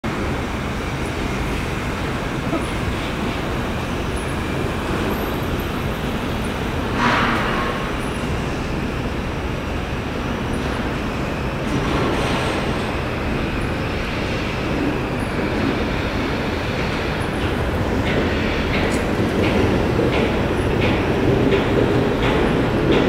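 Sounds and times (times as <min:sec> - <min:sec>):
train rumbling past: 0:00.0 - 0:23.0
wheels clacking over rail joints: 0:00.1 - 0:23.0.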